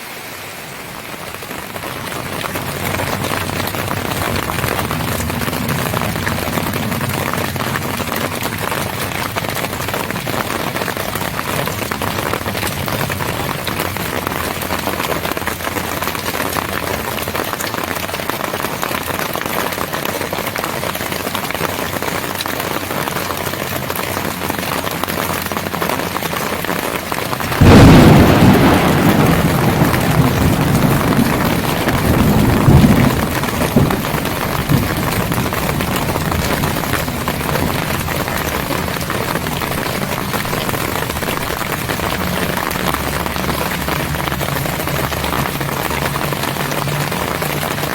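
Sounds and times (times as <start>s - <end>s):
heavy rain falling: 0.0s - 47.9s
thunder rumbling: 1.6s - 19.2s, 22.8s - 47.9s.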